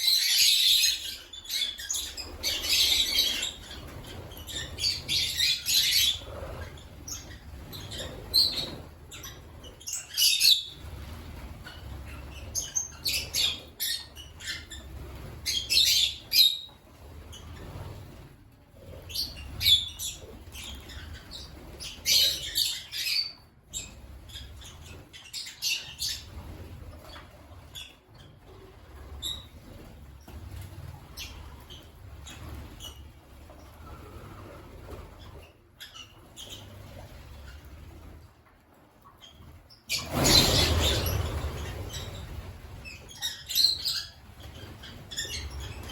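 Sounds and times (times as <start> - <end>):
lovebirds chirping and squawking: 0.0 - 38.3, 39.0 - 45.9.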